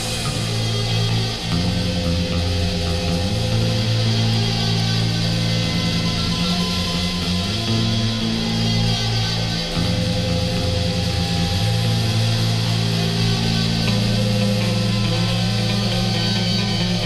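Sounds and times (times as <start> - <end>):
electric guitar: 0.0 - 17.0
gothic rock band playing: 0.0 - 17.0.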